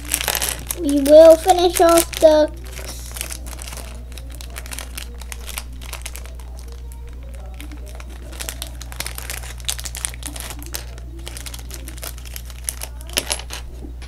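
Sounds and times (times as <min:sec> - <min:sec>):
packaging crinkling and rustling: 0:00.0 - 0:13.8
steady low hum: 0:00.0 - 0:14.0.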